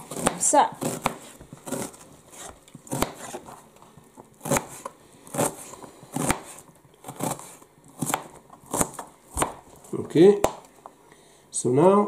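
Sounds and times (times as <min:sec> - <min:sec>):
knife chopping on cutting board: 0:00.0 - 0:03.6, 0:04.4 - 0:10.7.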